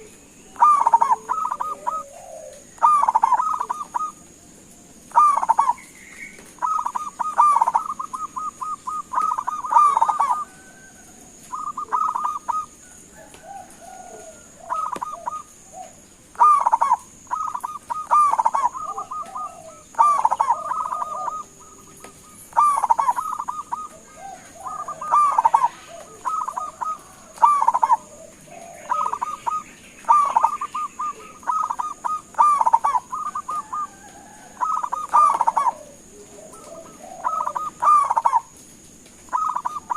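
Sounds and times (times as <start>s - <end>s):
dove cooing: 0.0s - 38.6s, 39.2s - 39.9s.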